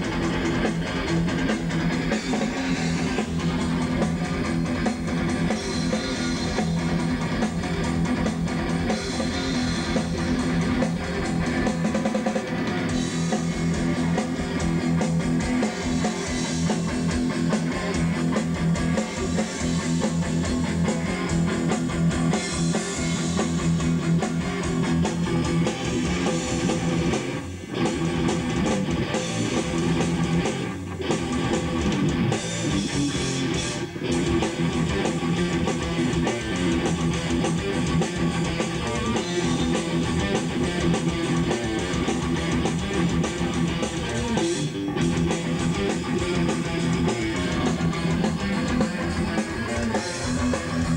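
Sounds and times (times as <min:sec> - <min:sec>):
drum kit: 0:00.0 - 0:50.9
electric guitar: 0:00.0 - 0:50.9.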